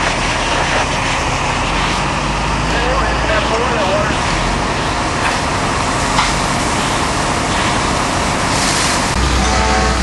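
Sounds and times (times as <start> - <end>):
deep hum: 0.0 - 10.0
fire engine running: 0.0 - 10.0
hose streams spraying: 0.0 - 10.0.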